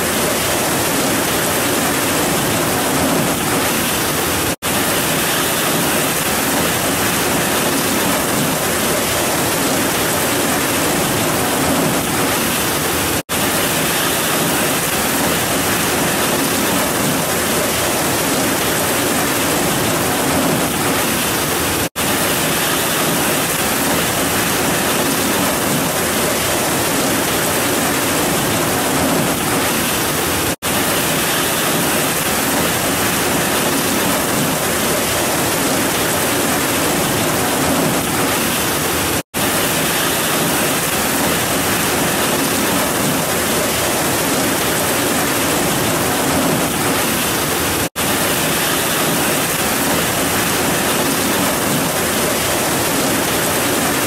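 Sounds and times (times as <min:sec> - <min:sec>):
heavy rain on grass and trees: 0:00.0 - 0:54.0.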